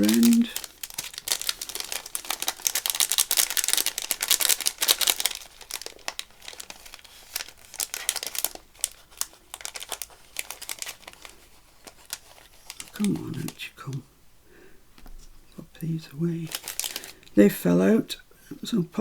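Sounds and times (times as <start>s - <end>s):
plastic packet and paper crinkling: 0.0s - 14.0s, 15.9s - 17.4s.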